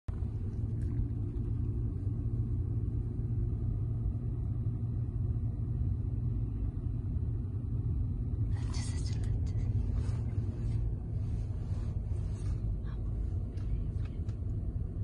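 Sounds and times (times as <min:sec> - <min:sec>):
car interior road rumble: 0:00.1 - 0:15.0.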